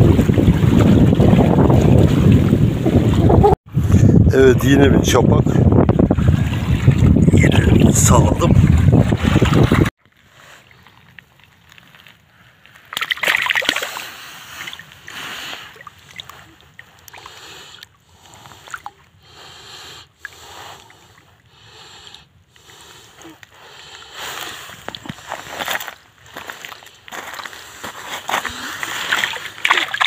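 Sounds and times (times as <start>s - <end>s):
water lapping in shallows: 0.0s - 4.0s, 4.8s - 30.0s
shallow water splashing: 5.8s - 30.0s.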